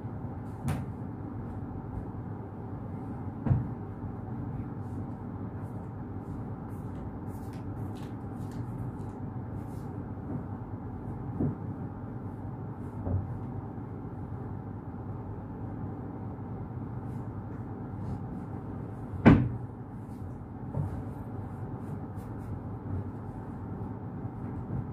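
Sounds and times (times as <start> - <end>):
air conditioner hum: 0.0 - 24.9.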